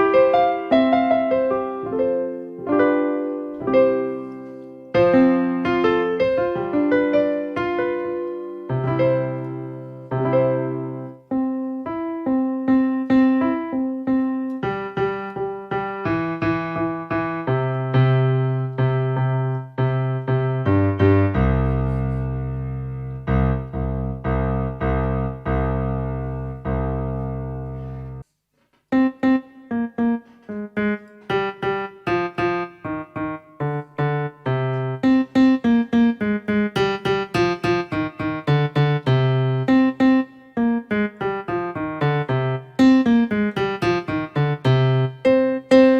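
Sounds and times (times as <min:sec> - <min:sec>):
piano melody and chords: 0:00.0 - 0:28.3, 0:28.9 - 0:45.9.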